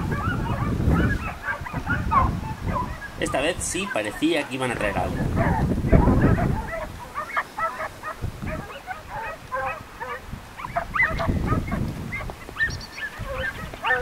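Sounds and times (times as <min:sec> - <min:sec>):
hounds baying and yelping: 0:00.0 - 0:14.0.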